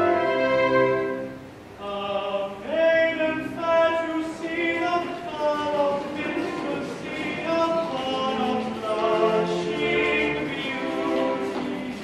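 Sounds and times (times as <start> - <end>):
pit orchestra with strings: 0.0 - 1.8, 2.9 - 12.0
man singing: 1.8 - 12.0.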